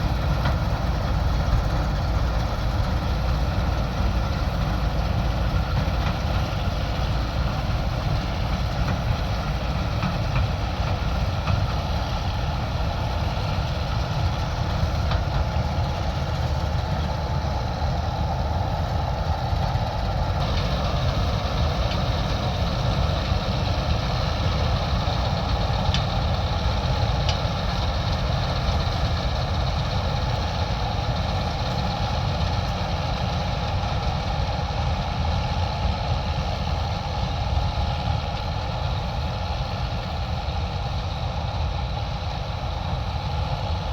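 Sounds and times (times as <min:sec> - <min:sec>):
combine harvester engine running: 0:00.0 - 0:43.9.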